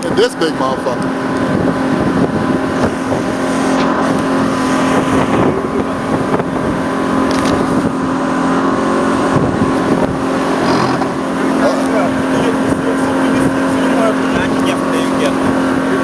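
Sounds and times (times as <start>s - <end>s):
small boat motor droning: 0.0s - 16.0s
wind and water rushing: 0.0s - 16.0s.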